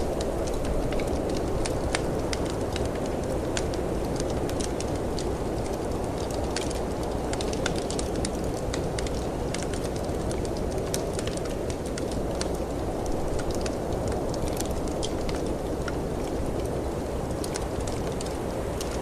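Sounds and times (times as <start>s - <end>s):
snowstorm wind: 0.0s - 19.0s
wood fire crackling: 0.0s - 19.0s.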